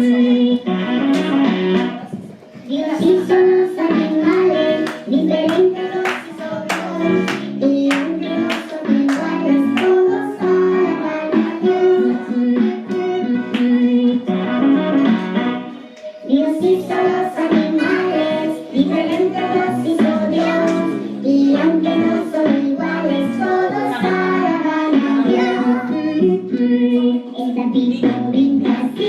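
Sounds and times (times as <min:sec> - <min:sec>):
instrumental accompaniment: 0:00.0 - 0:27.0
children singing: 0:02.7 - 0:14.3, 0:16.1 - 0:29.0.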